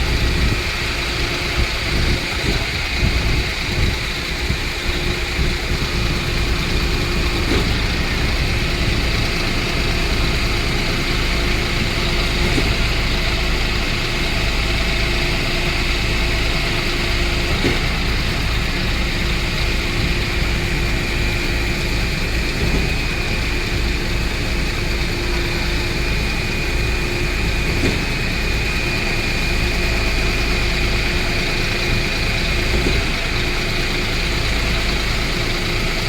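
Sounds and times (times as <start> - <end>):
pump truck engine running: 0.0 - 36.0
steady whine: 0.0 - 36.0.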